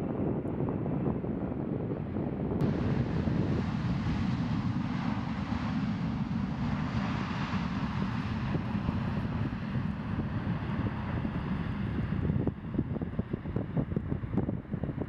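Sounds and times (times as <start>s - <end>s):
jet engines roaring: 0.0s - 15.0s
wind rumbling on microphone: 0.0s - 15.0s.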